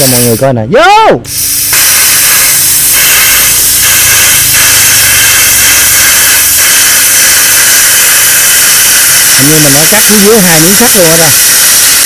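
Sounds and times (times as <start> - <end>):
plasma cutter arc hissing: 0.0 - 0.5, 1.3 - 12.0.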